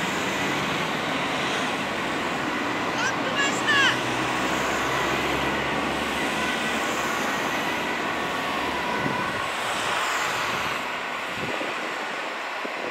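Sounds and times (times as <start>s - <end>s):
traffic driving past: 0.0s - 12.9s.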